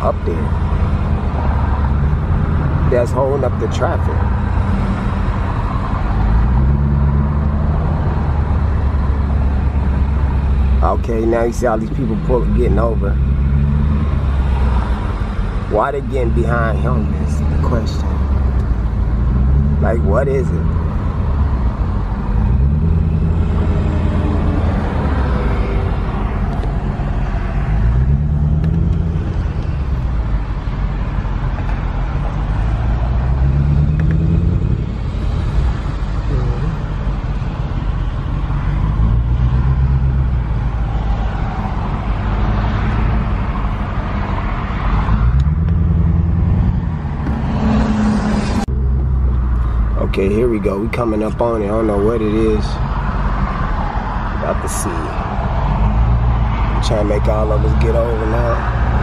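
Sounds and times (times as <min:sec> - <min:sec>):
car engine hum: 0:00.0 - 0:59.0
road noise rush: 0:00.0 - 0:59.0.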